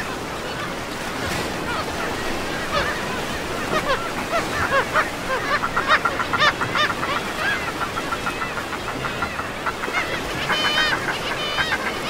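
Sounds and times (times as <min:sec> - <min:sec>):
seabirds calling: 0:00.0 - 0:12.0.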